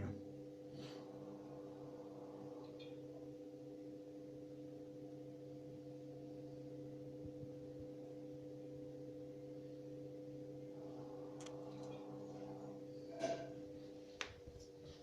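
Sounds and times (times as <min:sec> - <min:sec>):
stove fan humming: 0:00.0 - 0:15.0.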